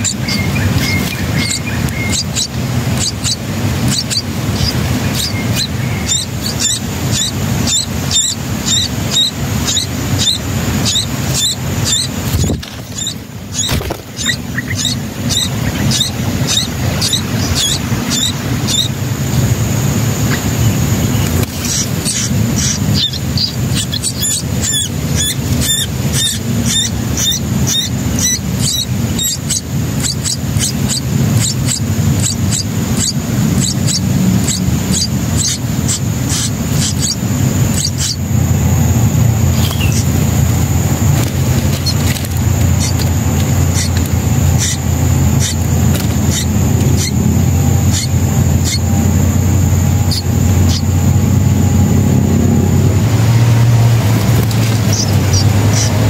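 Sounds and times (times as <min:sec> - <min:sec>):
low background rumble: 0:00.0 - 0:56.0
nestlings squeaking: 0:00.0 - 0:56.0.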